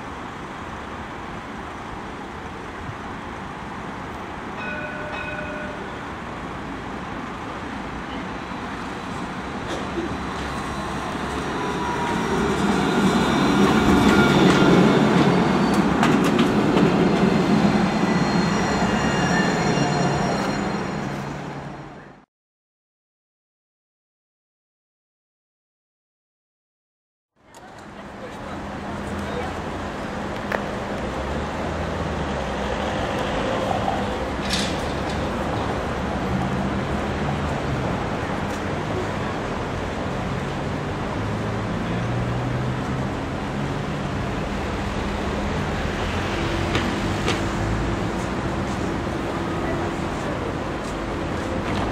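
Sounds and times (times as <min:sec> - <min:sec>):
tram wheels rumbling on rails: 0:00.1 - 0:22.2, 0:27.5 - 0:51.9.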